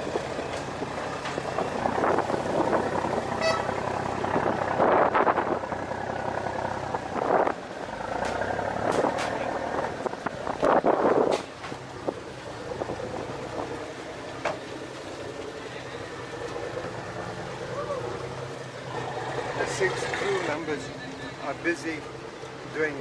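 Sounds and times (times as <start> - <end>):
ferry engine idling: 0.0 - 23.0.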